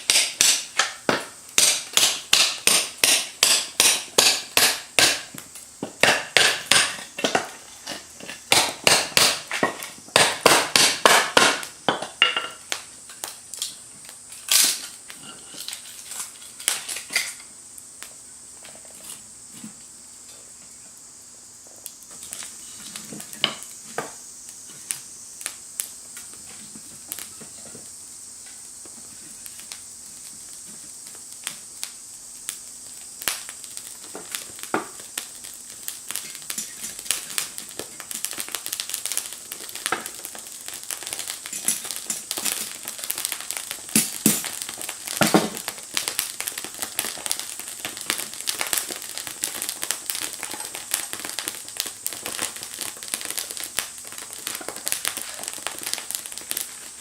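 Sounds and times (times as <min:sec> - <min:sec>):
small wood fire crackling: 0:00.0 - 0:57.0.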